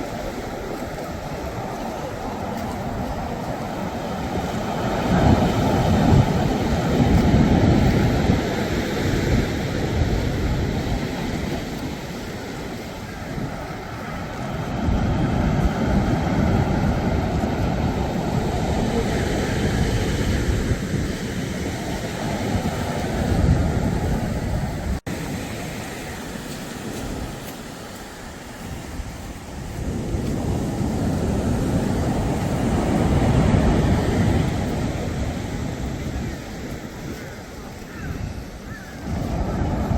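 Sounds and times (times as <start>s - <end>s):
sea waves on shore: 0.0s - 39.9s
wind buffeting microphone: 0.0s - 39.9s.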